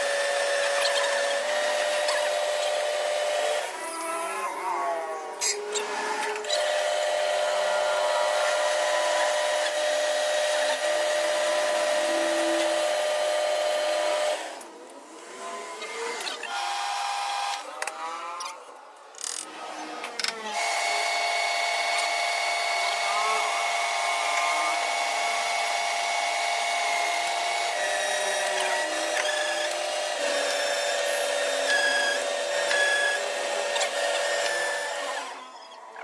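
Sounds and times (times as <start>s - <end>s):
power tool machining metal whine: 0.0s - 18.6s, 19.2s - 36.0s.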